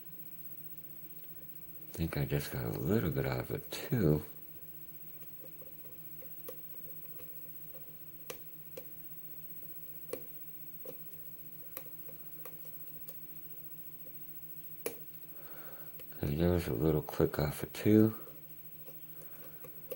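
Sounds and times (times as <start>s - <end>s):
faint low hum: 0.0s - 19.9s.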